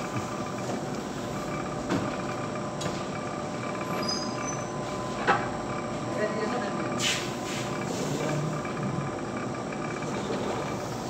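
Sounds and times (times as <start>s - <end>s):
stirrer motor humming: 0.0s - 11.0s.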